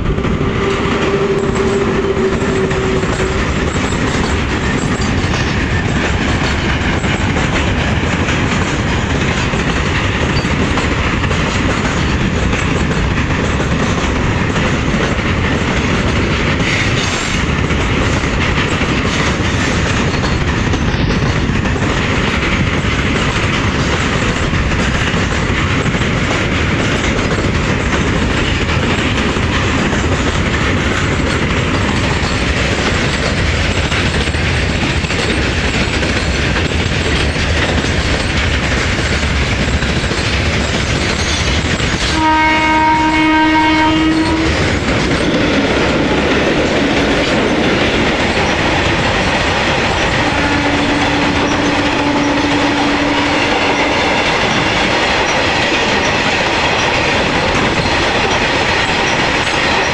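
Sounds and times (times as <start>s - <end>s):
wheels clacking over rail joints: 0.0s - 59.9s.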